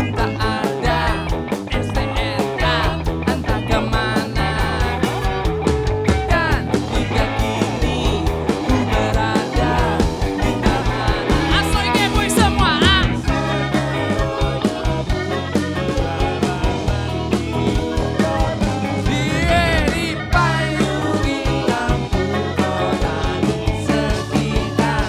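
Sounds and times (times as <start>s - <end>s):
man singing: 0.0s - 5.3s, 6.2s - 14.4s, 15.5s - 25.0s
live rock band playing: 0.0s - 25.0s.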